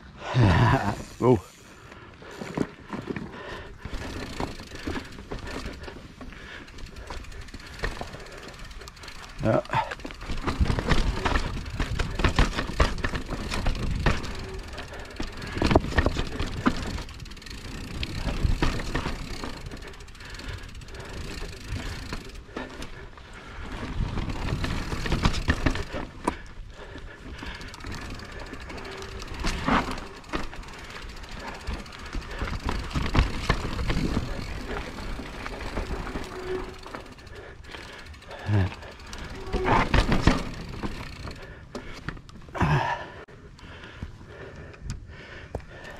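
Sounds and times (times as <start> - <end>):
bike tyres over rocks: 0.4 - 43.2
bike knocking and rattling: 2.2 - 45.9.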